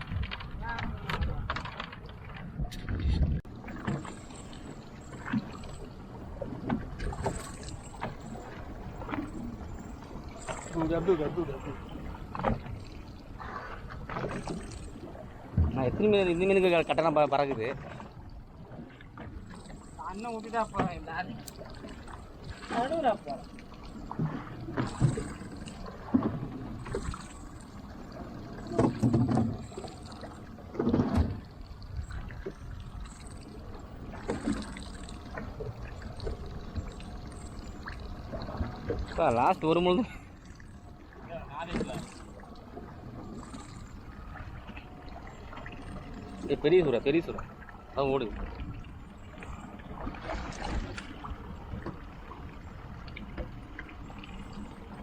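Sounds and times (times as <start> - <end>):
water washing against hull: 0.0 - 55.0.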